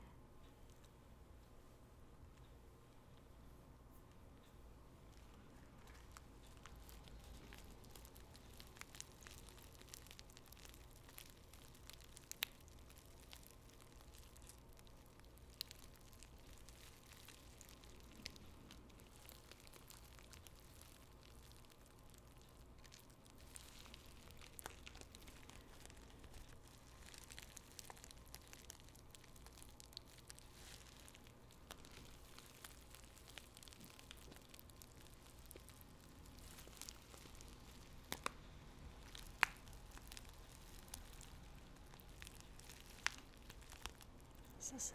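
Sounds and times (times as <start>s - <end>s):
paper wrappers crinkling: 5.2s - 44.7s.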